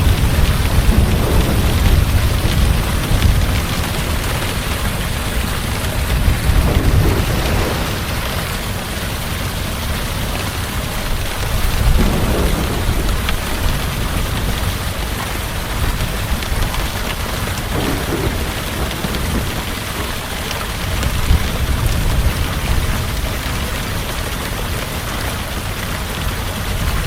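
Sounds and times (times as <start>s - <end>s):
thunder rolling: 0.0s - 23.2s
heavy rain falling: 0.0s - 27.0s.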